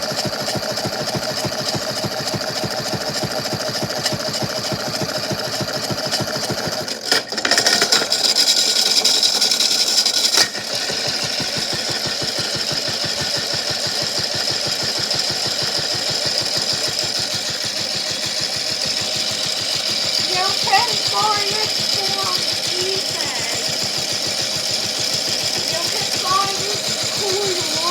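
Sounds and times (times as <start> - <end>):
small motor running: 0.0 - 27.9.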